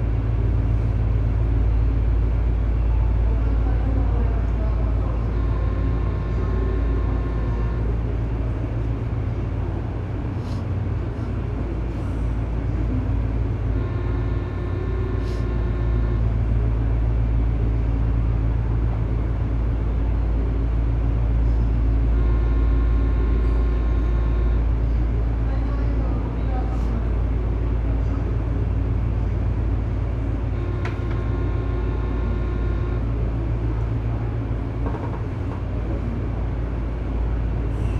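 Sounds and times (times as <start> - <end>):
train car rumble: 0.0 - 37.9.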